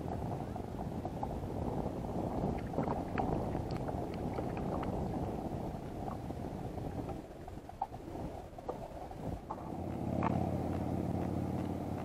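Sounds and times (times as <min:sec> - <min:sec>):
water lapping at kayak: 0:00.0 - 0:12.0
wind noise on microphone: 0:00.0 - 0:12.0.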